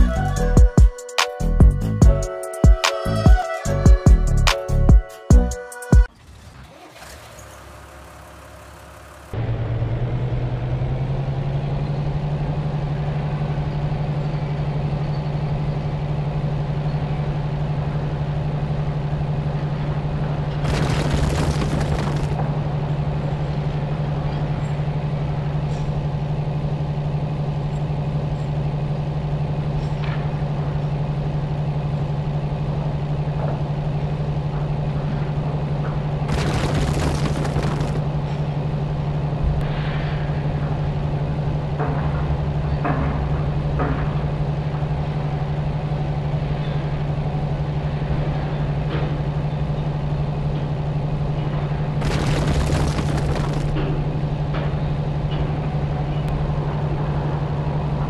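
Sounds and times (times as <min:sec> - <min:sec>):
heavy diesel engine drone: 0:00.0 - 0:58.0.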